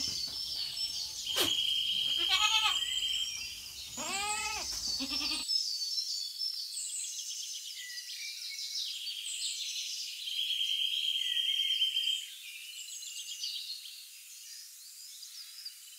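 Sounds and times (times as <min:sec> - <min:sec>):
small birds chirping and trilling: 0:00.0 - 0:15.9.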